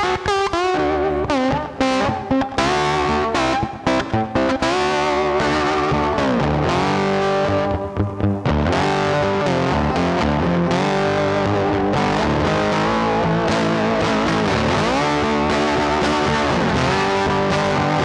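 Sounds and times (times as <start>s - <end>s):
electric guitar music: 0.0s - 18.0s.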